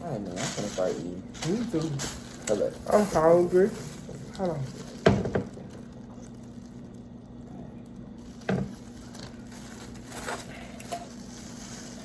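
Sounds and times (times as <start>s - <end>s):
steady low hum: 0.0s - 12.0s
wet squishing of food: 0.3s - 12.0s.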